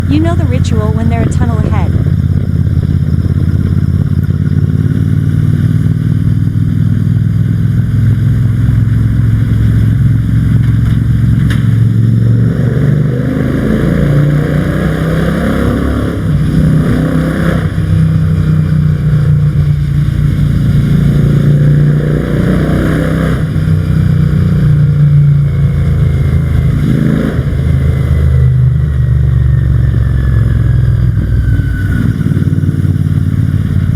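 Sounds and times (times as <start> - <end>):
motorcycle engine rumbling and revving: 0.0 - 33.9.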